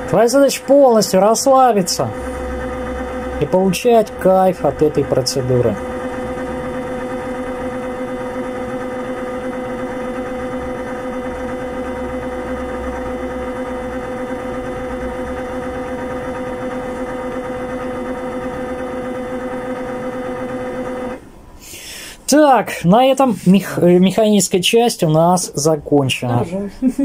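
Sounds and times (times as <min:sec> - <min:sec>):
vibration machine hum: 0:00.0 - 0:27.0.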